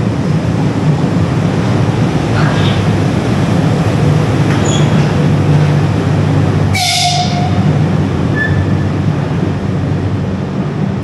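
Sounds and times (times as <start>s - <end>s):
electric locomotive rumbling past: 0.0s - 11.0s.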